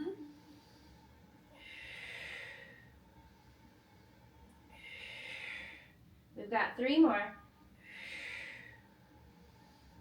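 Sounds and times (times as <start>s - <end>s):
woman breathing heavily: 0.0s - 6.3s, 7.7s - 10.0s.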